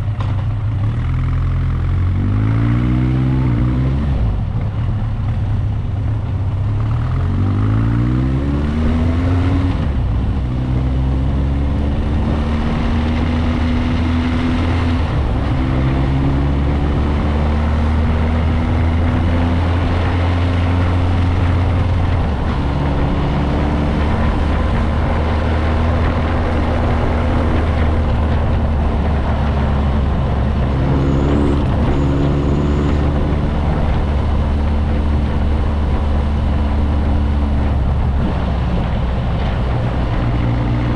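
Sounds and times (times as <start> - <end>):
constant rushing noise: 0.0 - 40.9
motorcycle engine changing gears: 0.0 - 40.9.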